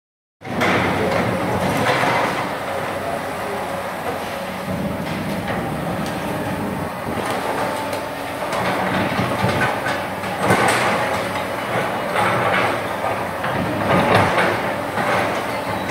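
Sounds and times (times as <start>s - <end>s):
excavator diesel engine running: 0.4s - 15.9s.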